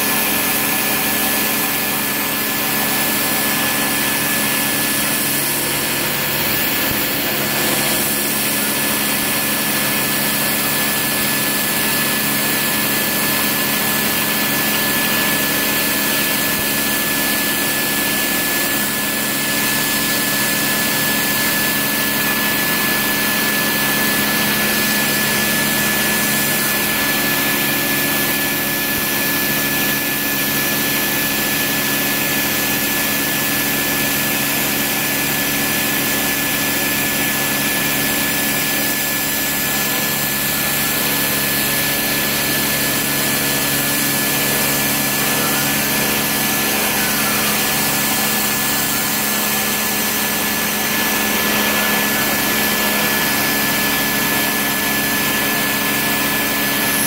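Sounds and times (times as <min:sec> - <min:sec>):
high spindle whine: 0:00.0 - 0:57.0
milling machine cutting: 0:00.0 - 0:57.0.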